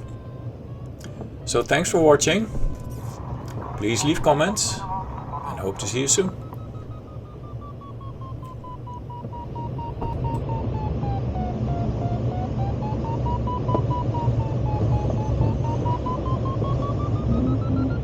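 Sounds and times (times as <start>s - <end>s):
steady low rumble: 0.0s - 18.0s
variometer beeping tone: 0.0s - 18.0s.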